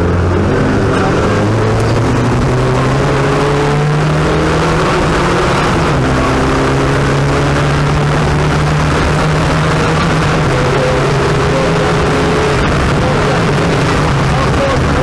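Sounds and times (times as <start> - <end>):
rally car engine running hard: 0.0 - 15.0.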